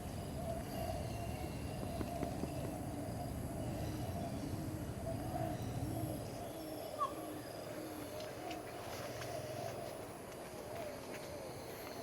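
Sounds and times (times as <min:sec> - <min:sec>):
low arching bird calls: 0:00.0 - 0:12.0.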